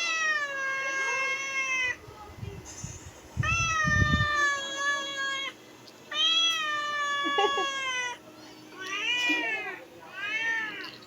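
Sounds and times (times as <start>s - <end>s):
cat meowing: 0.0s - 2.0s, 3.4s - 8.2s, 8.8s - 11.0s.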